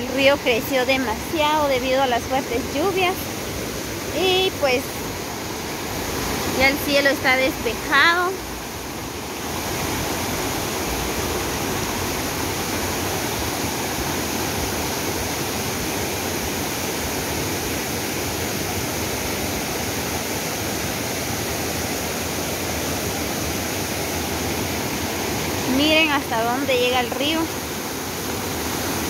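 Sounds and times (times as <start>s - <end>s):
river rushing: 0.0s - 29.0s.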